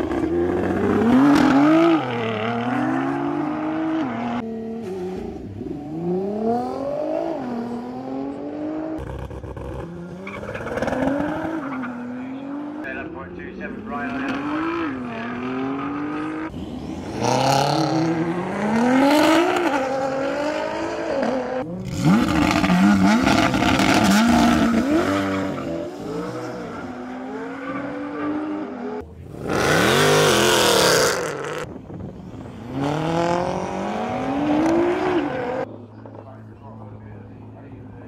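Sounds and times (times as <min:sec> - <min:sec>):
cars accelerating hard: 0:00.0 - 0:38.0.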